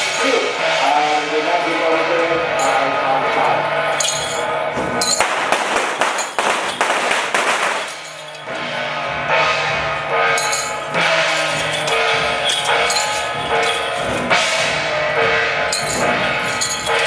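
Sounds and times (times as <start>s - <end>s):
firecrackers crackling: 2.7s - 17.0s.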